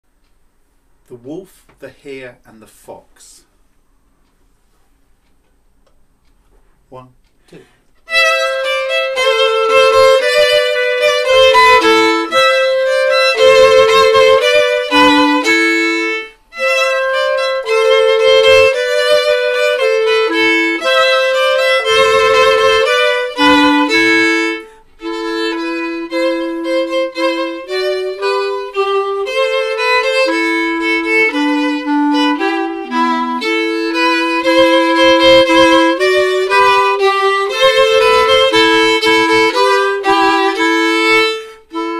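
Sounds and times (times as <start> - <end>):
violin and clarinet duo playing: 8.0 - 41.9.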